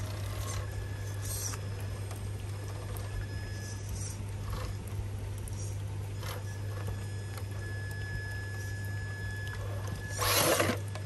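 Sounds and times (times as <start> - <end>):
small electric motor whining: 0.0 - 11.0.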